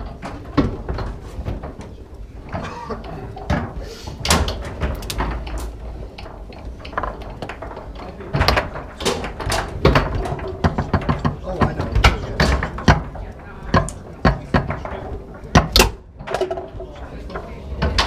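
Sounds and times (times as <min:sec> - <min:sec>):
foosball ball knocks and clacks: 0:00.0 - 0:18.0
foosball rods sliding and banging: 0:00.0 - 0:18.0.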